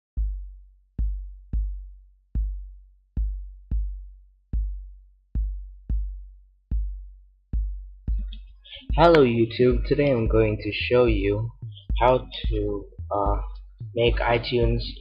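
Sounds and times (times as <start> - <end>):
booming drum machine kick drum: 0.2 - 15.0.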